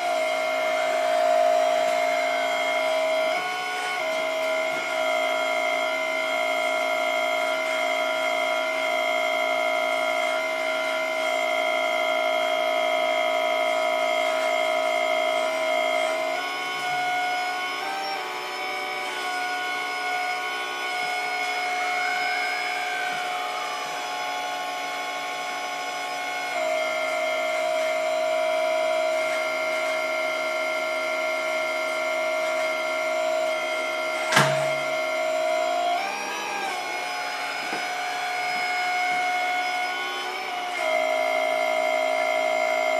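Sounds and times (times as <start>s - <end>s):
hydraulic pump whining: 0.0s - 42.9s.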